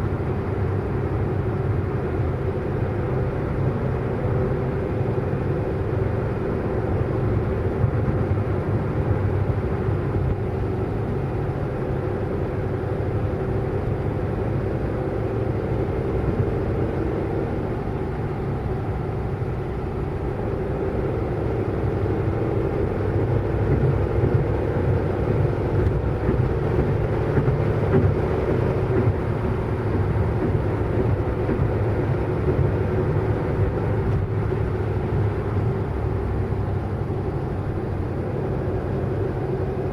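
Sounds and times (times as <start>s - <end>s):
car engine drone: 0.0s - 39.9s
road and tyre rumble: 0.0s - 39.9s.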